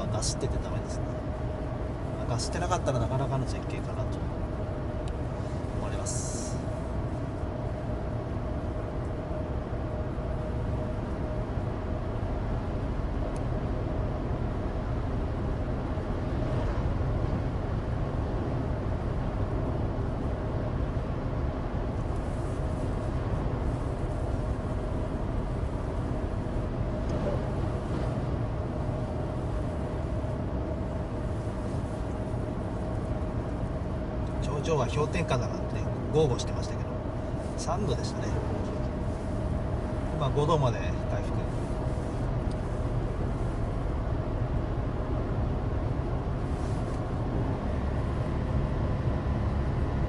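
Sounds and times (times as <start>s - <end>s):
car engine drone in cabin: 0.0s - 50.0s
faint steady hum: 0.0s - 50.0s
tyre road noise: 0.0s - 50.0s.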